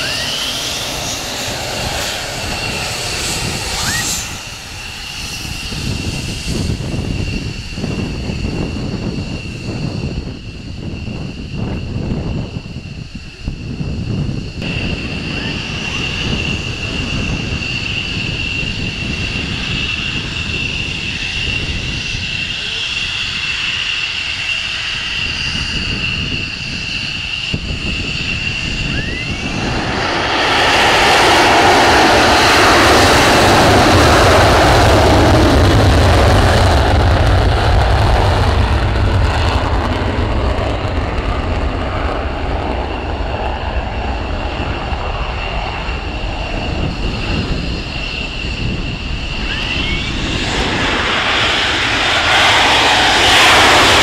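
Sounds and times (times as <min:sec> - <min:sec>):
jet engine whine and rumble: 0:00.0 - 0:54.0.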